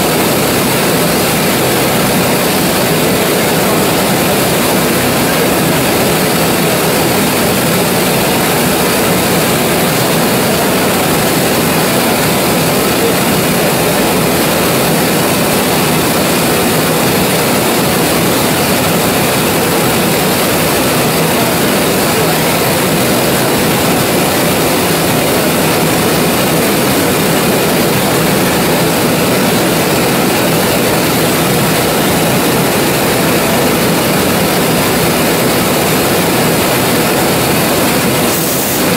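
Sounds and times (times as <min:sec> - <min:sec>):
oil engine running steadily: 0:00.0 - 0:38.9.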